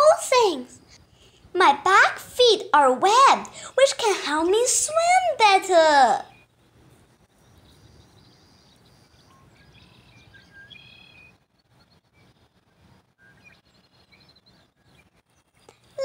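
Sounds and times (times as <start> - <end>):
low steady background hum: 0.0 - 16.0
small birds chirping: 0.0 - 16.0.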